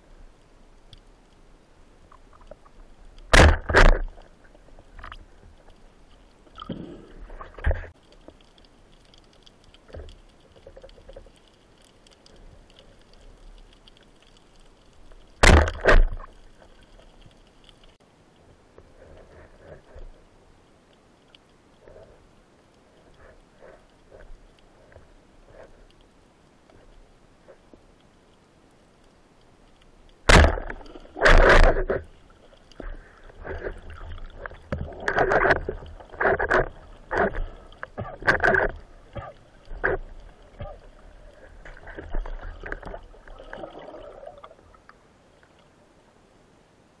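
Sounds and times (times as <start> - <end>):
faint crackling ticks: 0.0 - 3.3, 4.0 - 15.4, 16.0 - 43.3, 44.4 - 45.8
low underwater hiss: 4.0 - 47.0.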